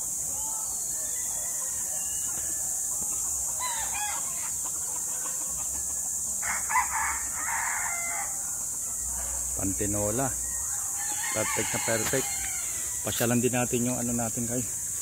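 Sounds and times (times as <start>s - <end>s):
chickens calling softly: 0.0s - 15.0s
rooster crowing: 0.4s - 9.5s, 10.2s - 13.4s.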